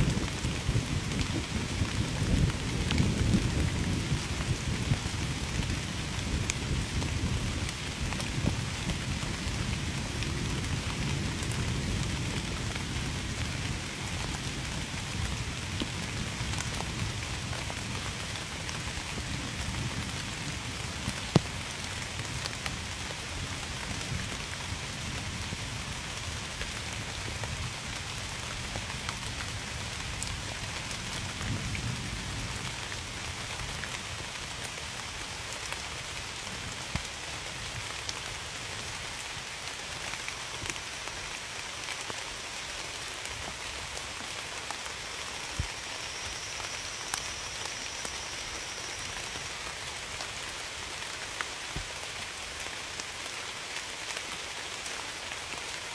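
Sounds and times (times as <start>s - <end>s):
rain pattering: 0.0s - 55.9s.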